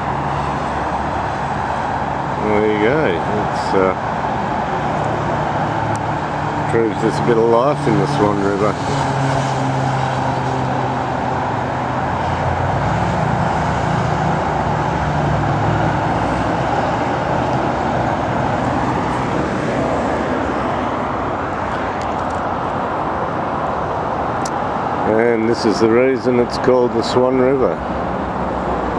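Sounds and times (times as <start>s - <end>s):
freeway traffic noise: 0.0s - 28.9s
low engine hum: 0.0s - 28.9s.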